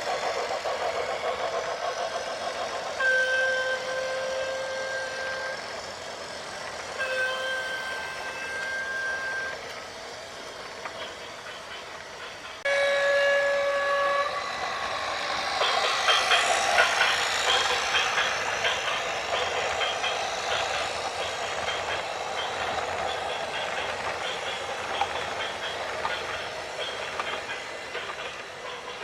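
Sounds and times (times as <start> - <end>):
train rolling past: 0.0 - 29.0
wheels clicking on rails: 0.0 - 29.0.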